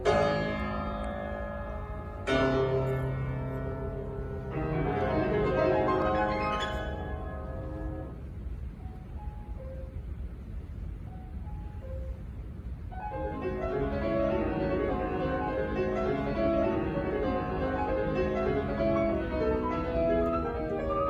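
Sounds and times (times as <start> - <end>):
grand piano playing: 0.0 - 10.1, 12.9 - 21.0.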